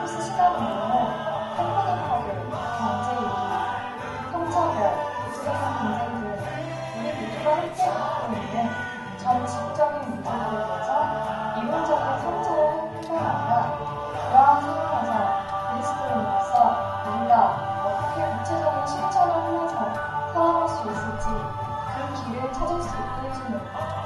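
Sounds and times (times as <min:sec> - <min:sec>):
music with singing voices: 0:00.0 - 0:24.0.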